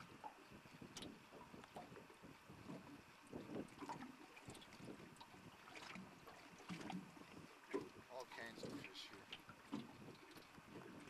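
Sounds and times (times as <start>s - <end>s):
wind on microphone: 0.0s - 8.9s, 9.6s - 11.0s
small waves lapping against boat: 0.0s - 11.0s.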